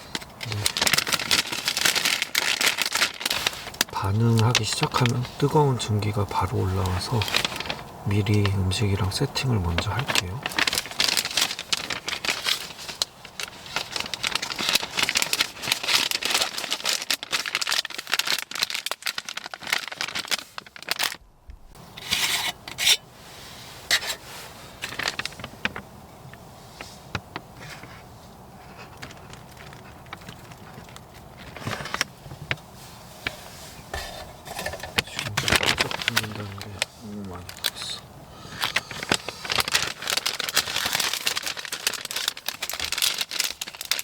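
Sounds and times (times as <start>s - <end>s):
plastic pouches crinkling: 0.0s - 21.2s, 24.8s - 25.9s, 28.7s - 32.2s, 34.4s - 44.0s.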